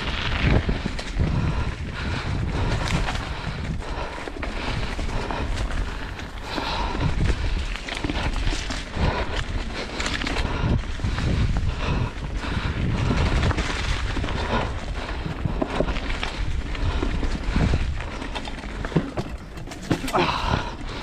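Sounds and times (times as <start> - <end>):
bike rattling over bumps: 0.0 - 21.0
bike tyres skidding on dirt: 0.0 - 21.0
wind rumbling on microphone: 0.0 - 21.0.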